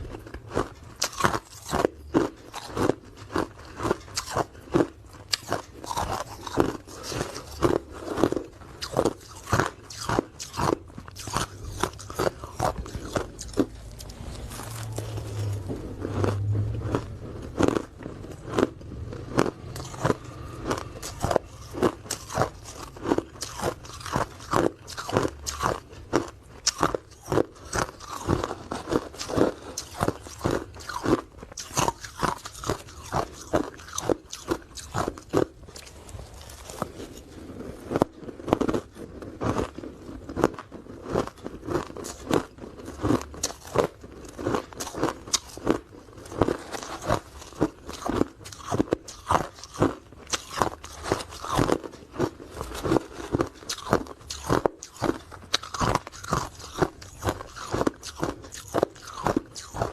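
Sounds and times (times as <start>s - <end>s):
ice cubes crunching: 0.1s - 59.9s.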